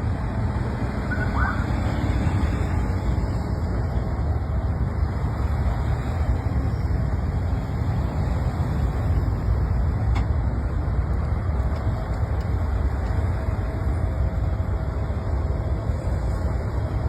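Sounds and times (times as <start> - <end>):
road vehicle rumble and hiss: 0.0 - 17.0.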